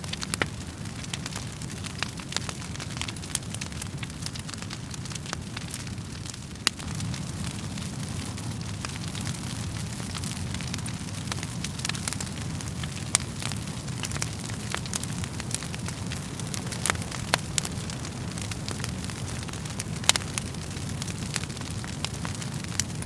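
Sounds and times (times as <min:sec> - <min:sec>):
low rumble of burning: 0:00.0 - 0:23.0
wood fire popping and snapping: 0:00.0 - 0:23.0.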